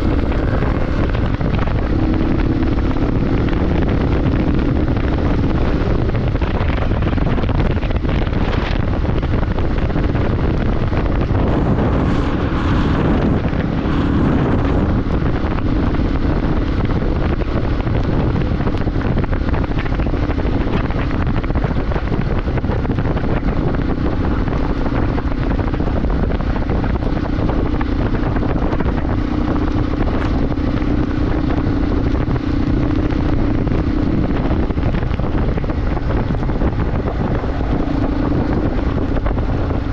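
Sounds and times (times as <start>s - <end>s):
motorbike engine drone: 0.0s - 39.9s
wind rushing over microphone: 0.0s - 39.9s.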